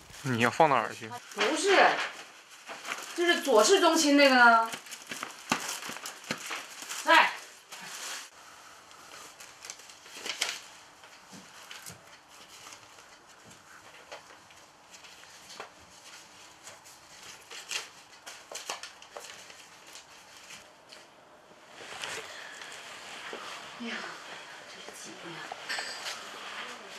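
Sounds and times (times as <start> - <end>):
paper crackles: 1.2 - 26.9
paper rustling and crinkling: 1.2 - 26.9.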